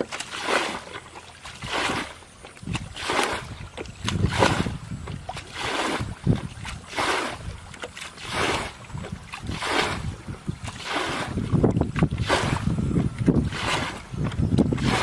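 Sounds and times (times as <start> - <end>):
water swishing and sloshing: 0.0 - 15.0.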